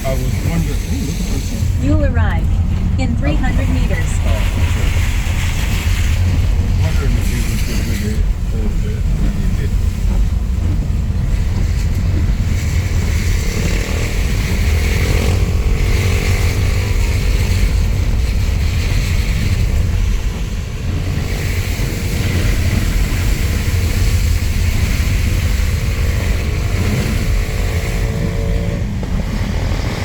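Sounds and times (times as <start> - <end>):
car engine and road rumble: 0.0 - 30.0
rain hissing: 0.0 - 30.0
tyres on wet road: 0.0 - 30.0.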